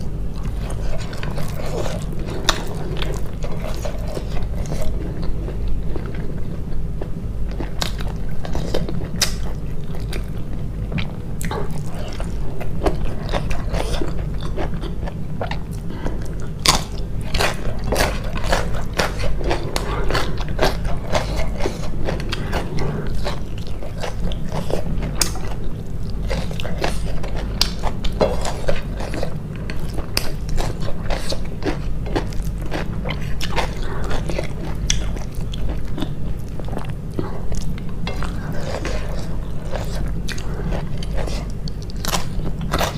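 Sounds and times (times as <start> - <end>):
steady low hum: 0.0 - 42.9
crisp chewing crunches: 0.2 - 42.9.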